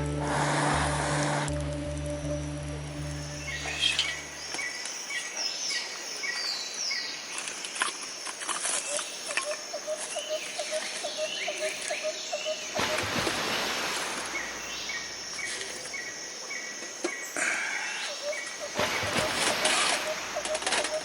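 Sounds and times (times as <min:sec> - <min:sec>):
steady high insect hum: 0:00.0 - 0:21.0.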